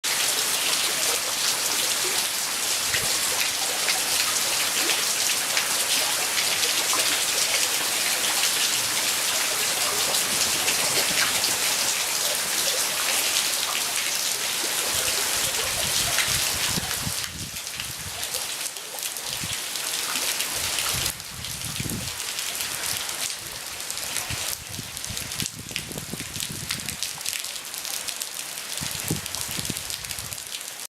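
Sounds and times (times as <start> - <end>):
heavy rain pouring: 0.0 - 30.9.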